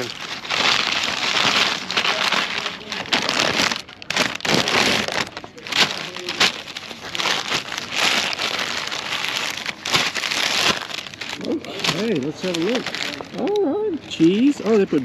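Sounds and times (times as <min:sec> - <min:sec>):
paper wrapping crinkling: 0:00.0 - 0:15.0.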